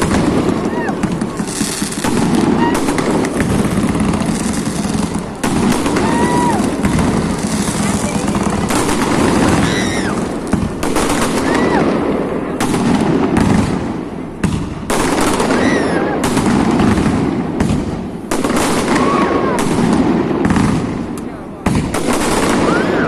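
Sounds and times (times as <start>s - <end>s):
fireworks bursting and crackling: 0.0s - 23.0s
fireworks whistling: 0.0s - 23.0s.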